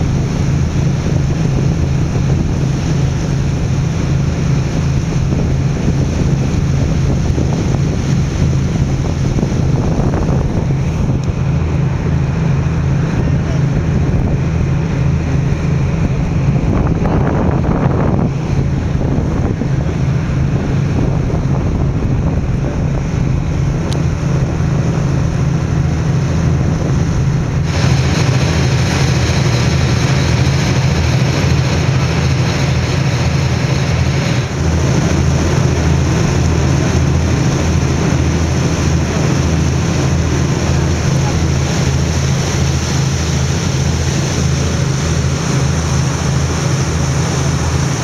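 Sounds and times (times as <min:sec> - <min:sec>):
boat engine droning: 0:00.0 - 0:48.0
water along hull: 0:00.0 - 0:48.0
wind on microphone: 0:00.0 - 0:48.0.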